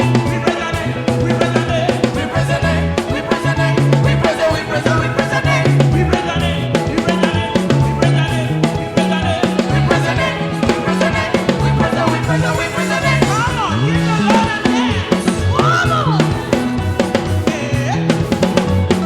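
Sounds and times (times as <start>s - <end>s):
bass line: 0.0s - 19.0s
drum kit beat: 0.0s - 19.0s
upbeat gospel band music: 0.0s - 19.0s.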